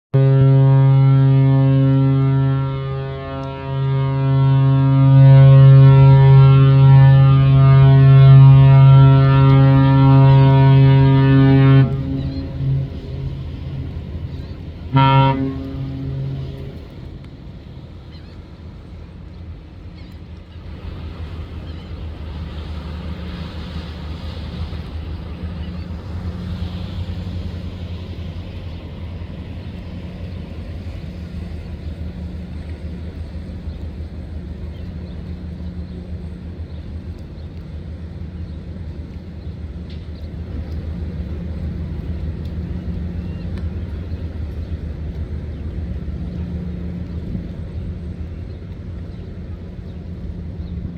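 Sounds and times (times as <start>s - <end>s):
low rumble: 0.1s - 50.9s
ship's horn blast: 0.1s - 50.9s.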